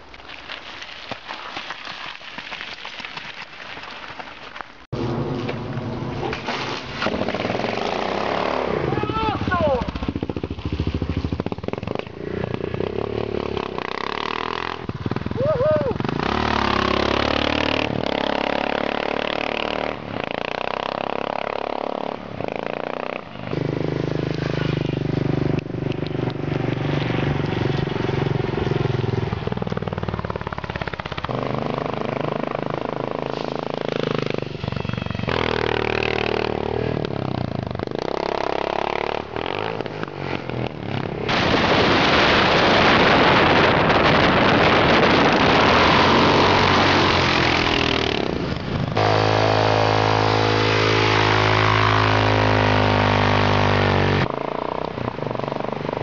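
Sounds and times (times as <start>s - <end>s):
motorcycle engine running: 7.2s - 56.0s.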